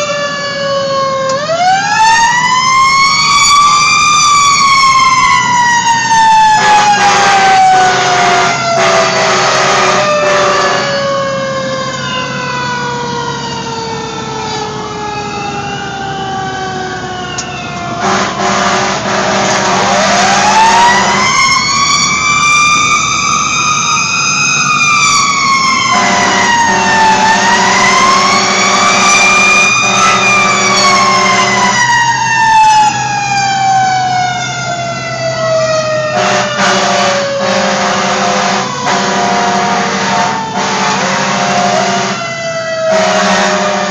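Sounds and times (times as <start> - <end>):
fire engine siren: 0.0 - 43.9.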